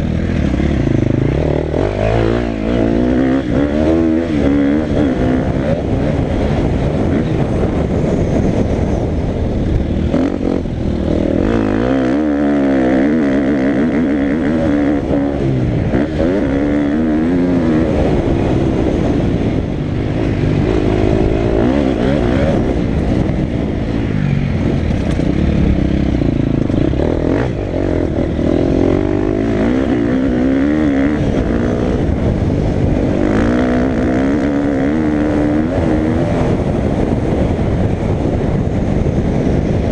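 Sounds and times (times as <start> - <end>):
dirt bike engine revving: 0.0 - 38.4.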